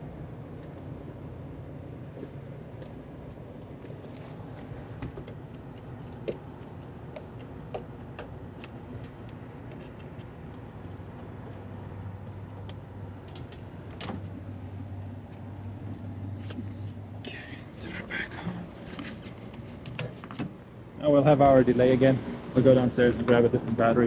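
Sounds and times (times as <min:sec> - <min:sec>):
hvac equipment humming: 0:00.0 - 0:24.0.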